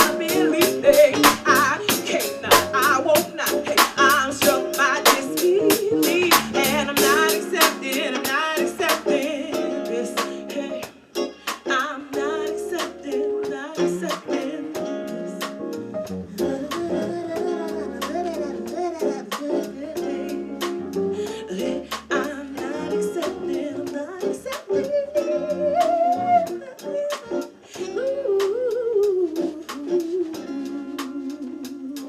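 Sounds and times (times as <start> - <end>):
person singing: 0.0 - 15.6, 16.2 - 32.0.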